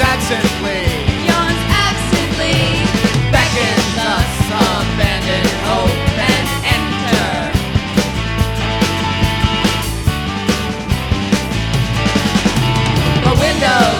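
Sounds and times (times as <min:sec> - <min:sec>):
rock band playing: 0:00.0 - 0:13.9
steady drumbeat: 0:00.0 - 0:13.9.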